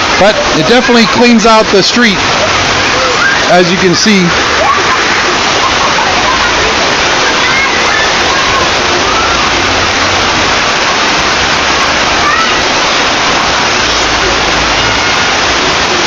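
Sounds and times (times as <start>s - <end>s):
faint distant voices: 0.0s - 16.0s
heavy rain pouring: 0.0s - 16.0s
running water: 0.0s - 16.0s.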